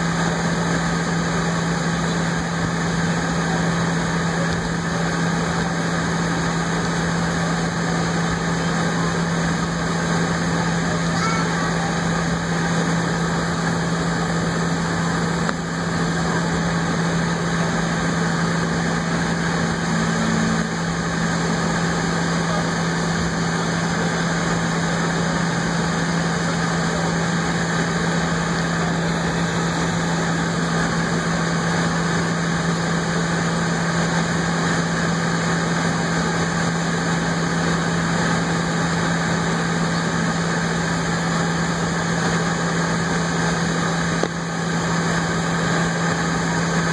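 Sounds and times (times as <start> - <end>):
constant low hum: 0.0 - 46.9
jet engines idling hiss: 0.0 - 46.9.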